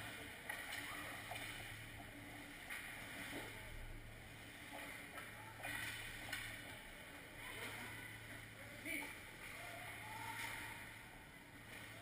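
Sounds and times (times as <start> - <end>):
low rink hum: 0.0 - 12.0.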